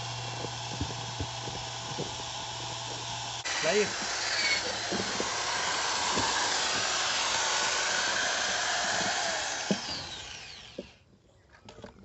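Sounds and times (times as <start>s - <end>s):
electric power tool running: 0.0s - 11.0s.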